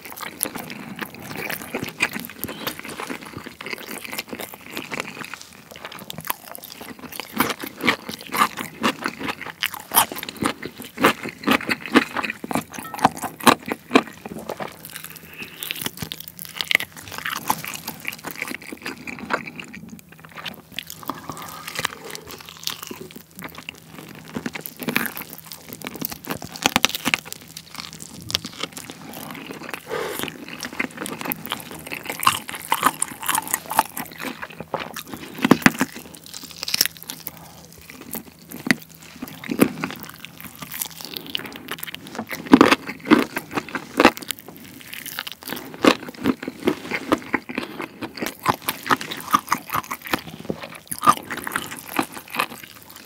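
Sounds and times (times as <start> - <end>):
biting and chewing chicken: 0.0 - 53.0.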